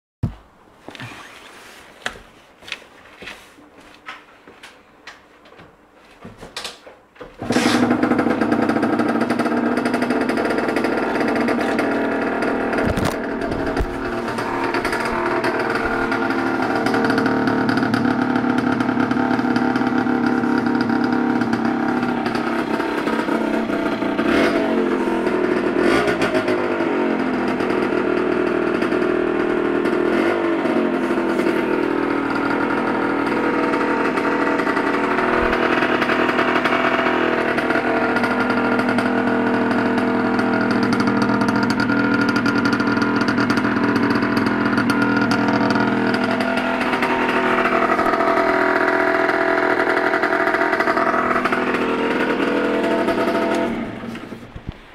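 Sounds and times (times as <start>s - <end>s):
two-stroke engine idling: 7.4s - 54.5s.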